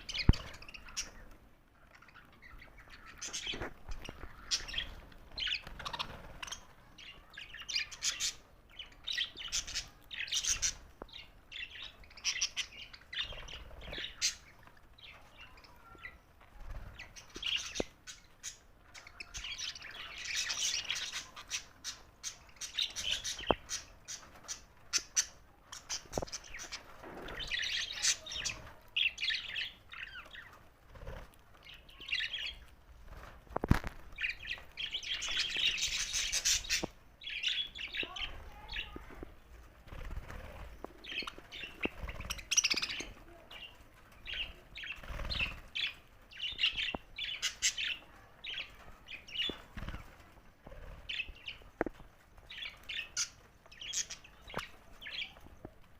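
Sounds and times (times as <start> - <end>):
budgerigars chirping and chattering: 0.0 - 39.0, 39.9 - 55.5.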